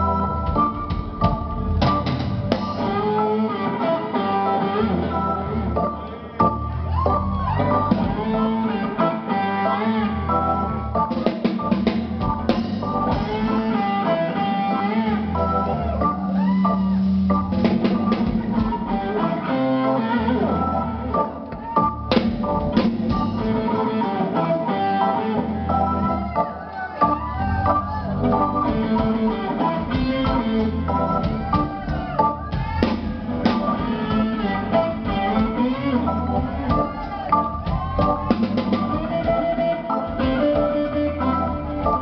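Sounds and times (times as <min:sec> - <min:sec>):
drum kit: 0:00.0 - 0:42.0
electric guitar: 0:00.0 - 0:42.0
keyboard: 0:00.0 - 0:42.0
upright bass: 0:00.0 - 0:42.0.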